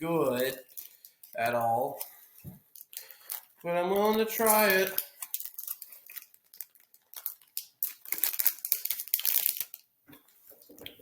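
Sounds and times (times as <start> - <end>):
candy wrapper crinkling: 0.1 - 9.9.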